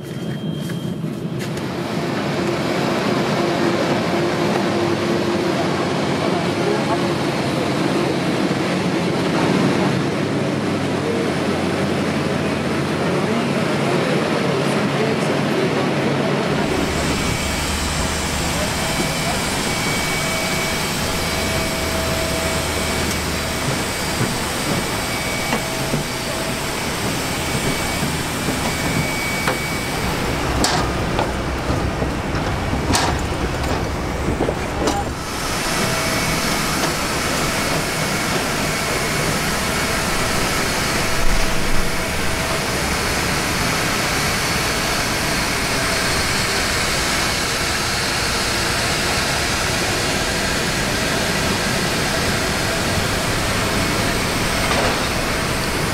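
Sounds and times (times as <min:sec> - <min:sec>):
aircraft and ground equipment roar: 0:00.0 - 0:55.9.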